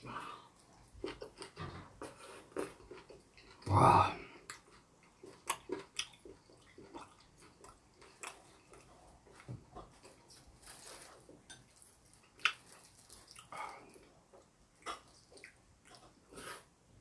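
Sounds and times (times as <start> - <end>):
chewing: 0.6 - 3.7, 4.3 - 16.7.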